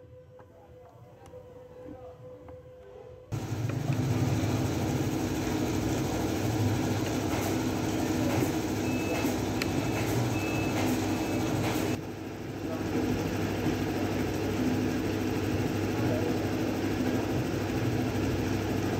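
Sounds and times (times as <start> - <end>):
heavy engine humming: 3.3 - 18.9.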